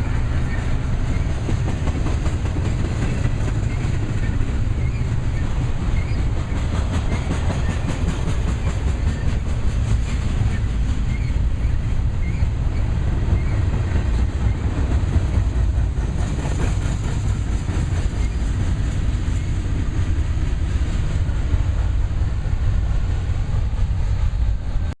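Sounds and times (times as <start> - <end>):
freight train wheels on rail: 0.0 - 25.0.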